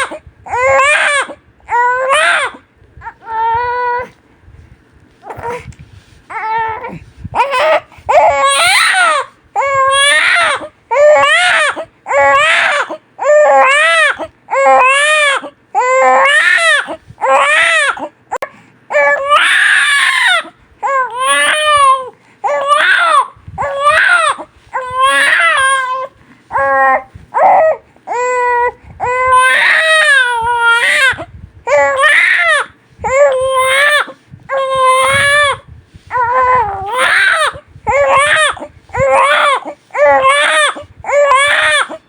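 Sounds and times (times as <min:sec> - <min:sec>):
newborn baby crying: 0:00.0 - 0:04.2, 0:06.3 - 0:42.0.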